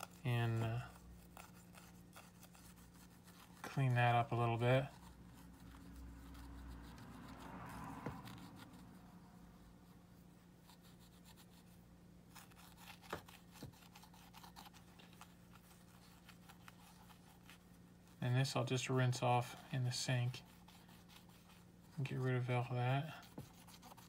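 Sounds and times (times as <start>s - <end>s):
cotton swab scratching plastic: 0.0s - 24.0s.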